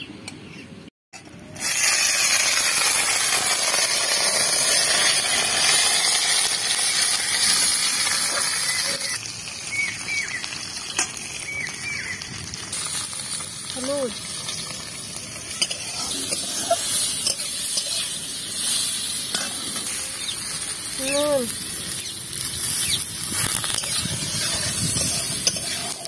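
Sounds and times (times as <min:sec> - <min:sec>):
fruit sizzling in hot oil: 0:01.4 - 0:26.0.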